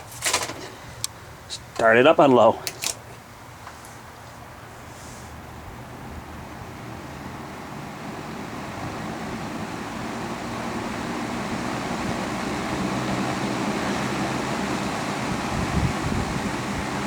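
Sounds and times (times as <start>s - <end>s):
box fan humming: 0.0s - 17.0s.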